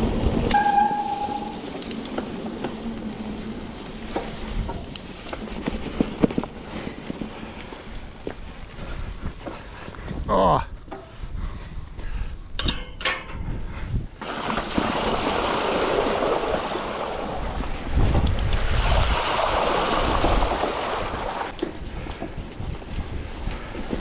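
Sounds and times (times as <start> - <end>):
wind buffeting microphone: 1.4 - 12.6, 13.2 - 14.2, 15.0 - 24.0.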